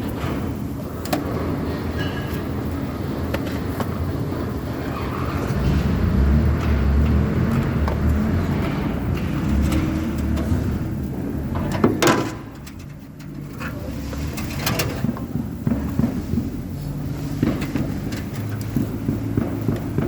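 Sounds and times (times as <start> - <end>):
engine low rumble: 0.0 - 20.0.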